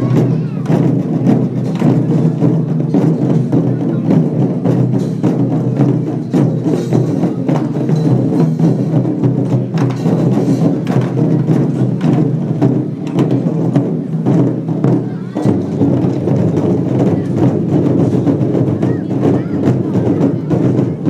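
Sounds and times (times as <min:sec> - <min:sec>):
cymbals: 0:00.0 - 0:21.0
drum: 0:00.0 - 0:21.0.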